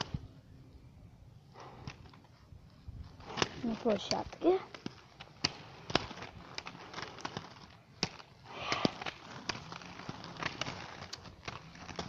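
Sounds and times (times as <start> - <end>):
roller skates clacking on pavement: 0.0 - 0.4, 1.4 - 12.0.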